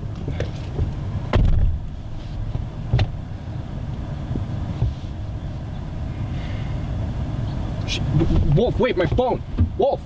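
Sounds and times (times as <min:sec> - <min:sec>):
car rumble: 0:00.0 - 0:10.0.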